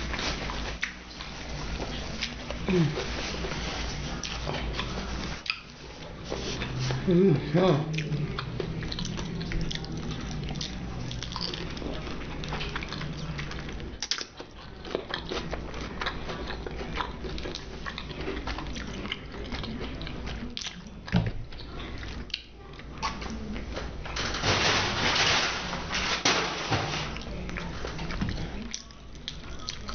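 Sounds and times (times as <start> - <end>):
person chewing food: 0.0 - 24.1, 27.2 - 29.9.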